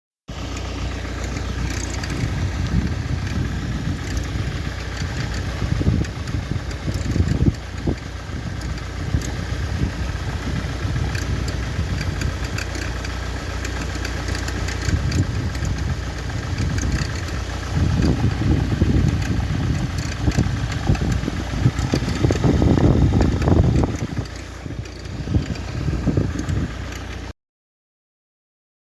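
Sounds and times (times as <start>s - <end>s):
diesel engine running: 0.3s - 27.3s
light ticks: 0.5s - 3.4s, 4.0s - 9.4s, 11.1s - 27.3s.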